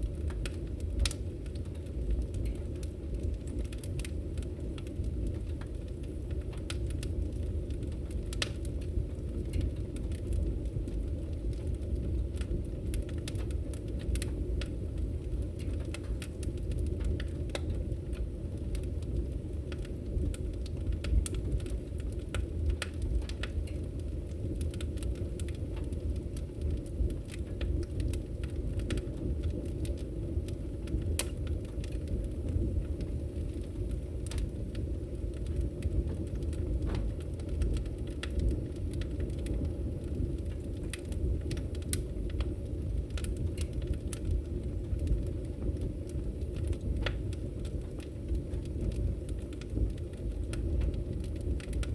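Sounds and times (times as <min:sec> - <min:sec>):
campfire flames rushing: 0:00.0 - 0:51.9
wood crackling and popping: 0:00.0 - 0:51.9.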